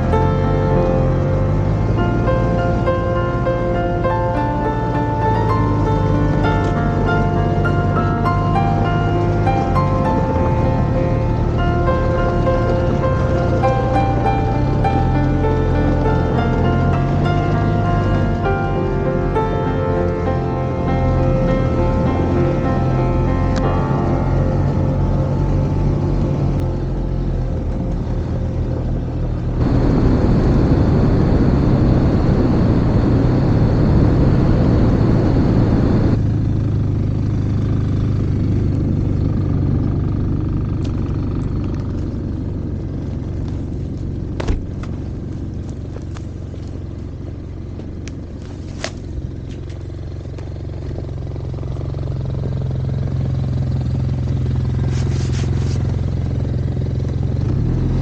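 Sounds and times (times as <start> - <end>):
snowmobile engine running: 0.0 - 58.0
track and snow noise: 0.0 - 58.0.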